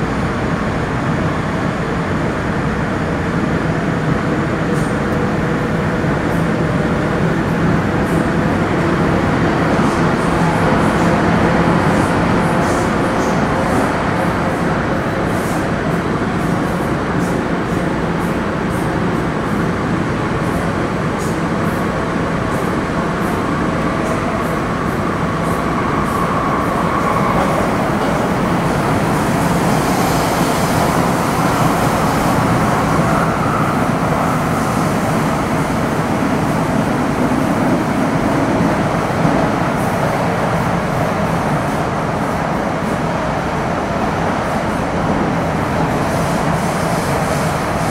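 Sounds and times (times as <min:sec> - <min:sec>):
train rumbling inside car: 0:00.0 - 0:47.9.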